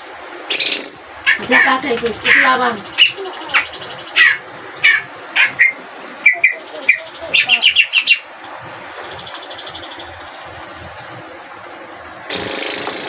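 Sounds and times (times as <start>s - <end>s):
songbird singing: 0.0s - 11.3s.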